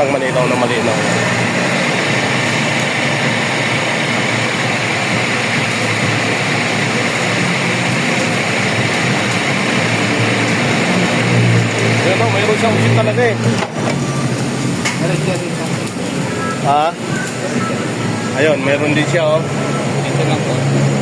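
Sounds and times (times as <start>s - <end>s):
machine whirring hum: 0.0s - 21.0s.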